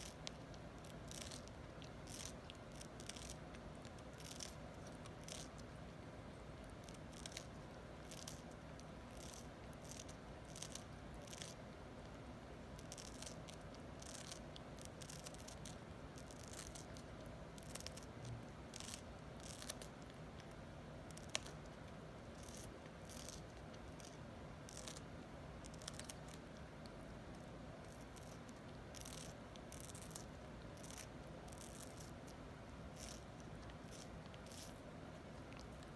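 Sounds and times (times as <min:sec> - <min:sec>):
beak nibbling watermelon: 0:00.0 - 0:35.9
steady low hum: 0:00.0 - 0:35.9.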